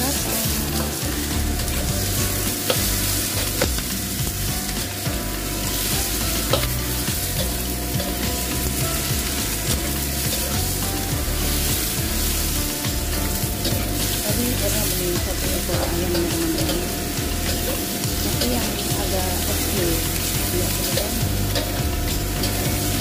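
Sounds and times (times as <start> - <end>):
food sizzling in a wok: 0.0 - 23.0.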